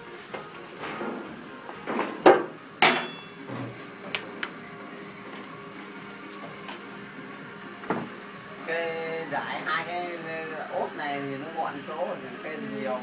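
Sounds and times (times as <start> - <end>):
faint machine hum: 0.0 - 13.0.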